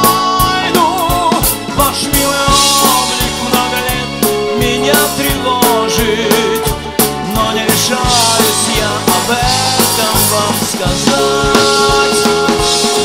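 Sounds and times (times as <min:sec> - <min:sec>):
live pop band playing: 0:00.0 - 0:13.0
steady drum beat: 0:00.0 - 0:13.0.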